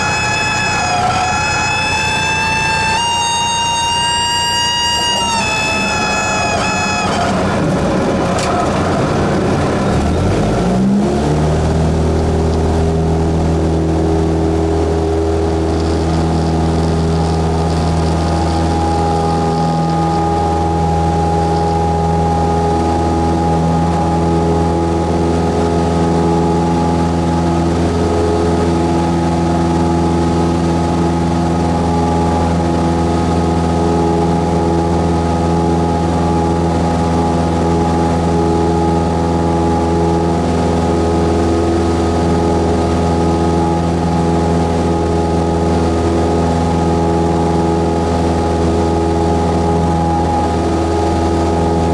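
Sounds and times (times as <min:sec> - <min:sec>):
propeller plane engine drone: 0:00.0 - 0:51.9.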